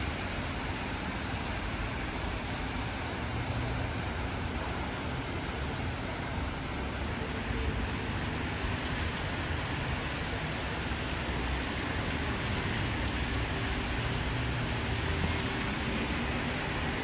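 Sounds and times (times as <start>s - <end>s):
low traffic rumble: 0.0s - 17.0s
tyres hissing on wet road: 0.0s - 17.0s.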